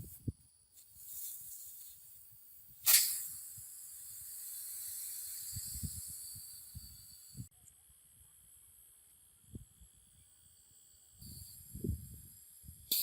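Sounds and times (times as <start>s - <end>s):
gas hissing under pressure: 0.0s - 7.5s, 9.5s - 13.0s.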